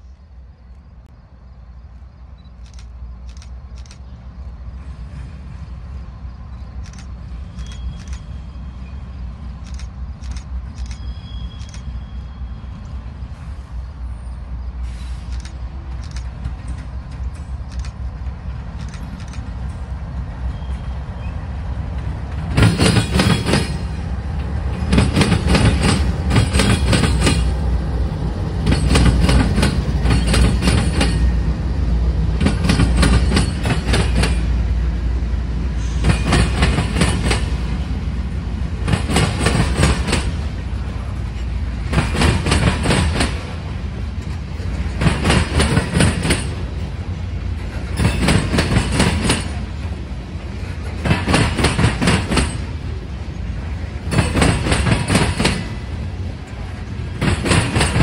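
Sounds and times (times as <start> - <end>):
diesel locomotive rumble: 0.0 - 58.0.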